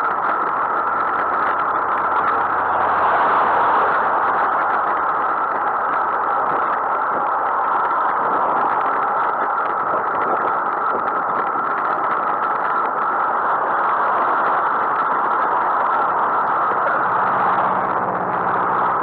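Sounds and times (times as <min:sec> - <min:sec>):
wind and road rushing: 0:00.0 - 0:19.0.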